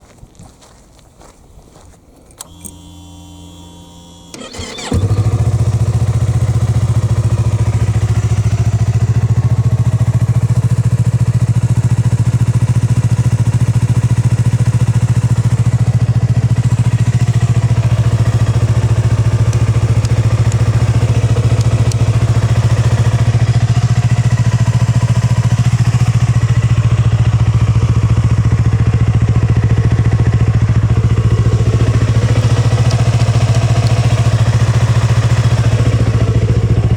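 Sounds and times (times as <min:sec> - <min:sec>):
electric starter: 0:02.4 - 0:29.2, 0:29.9 - 0:36.9
motorcycle engine idling: 0:02.4 - 0:36.9.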